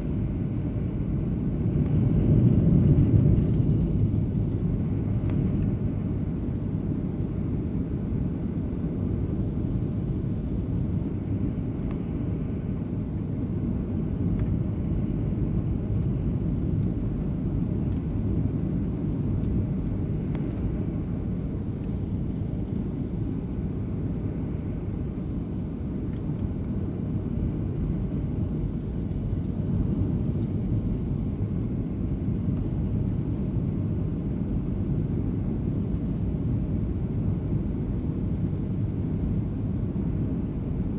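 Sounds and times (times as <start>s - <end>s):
jet engine and airflow rumble: 0.0s - 40.9s.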